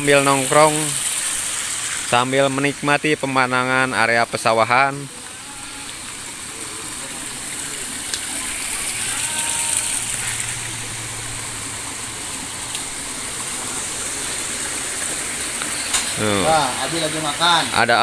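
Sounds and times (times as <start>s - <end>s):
water rushing in ditch: 0.0s - 18.0s.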